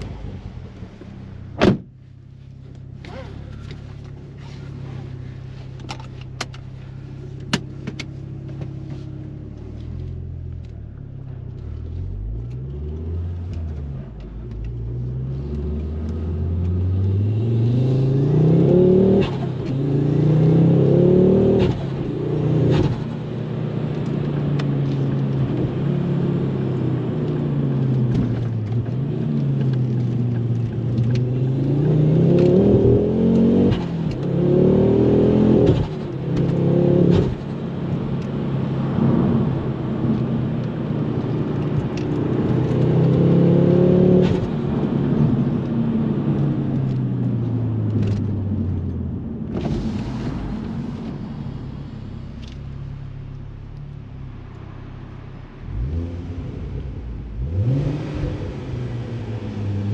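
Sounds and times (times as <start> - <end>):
car engine accelerating through gears: 2.6 - 59.9.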